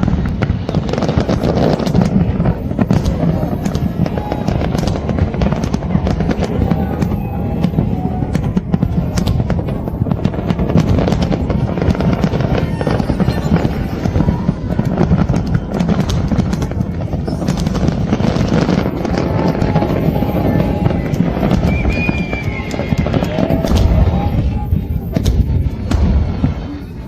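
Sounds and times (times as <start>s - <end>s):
deep rumble: 0.0s - 27.0s
fireworks cracks and bangs: 0.0s - 27.0s.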